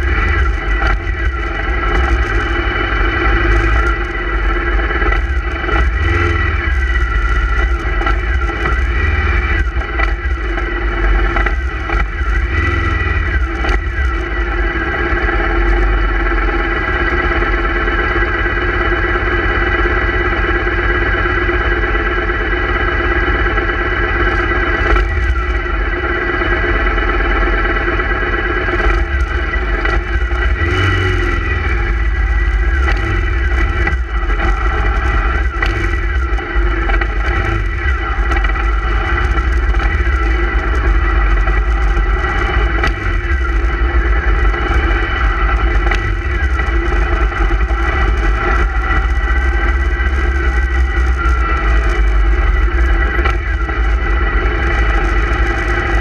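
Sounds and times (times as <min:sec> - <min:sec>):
motorcycle engines rumbling: 0:00.0 - 0:56.0.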